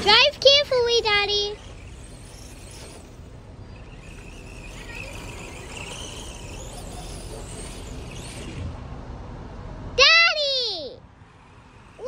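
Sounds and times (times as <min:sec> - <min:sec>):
rc truck motor whine: 0:00.0 - 0:09.8, 0:11.1 - 0:12.0.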